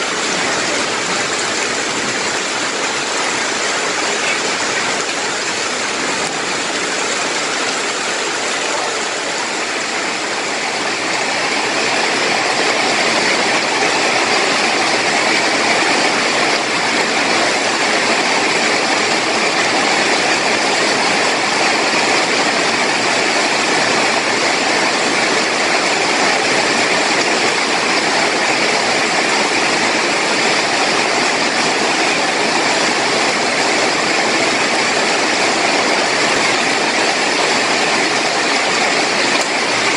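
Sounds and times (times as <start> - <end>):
heavy rain on leaves and water: 0.0 - 39.9.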